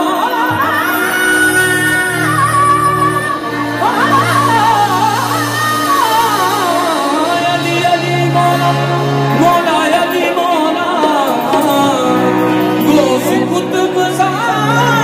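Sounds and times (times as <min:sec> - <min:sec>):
harmonium tones: 0:00.0 - 0:15.0
person singing sliding vocal line: 0:00.0 - 0:15.0.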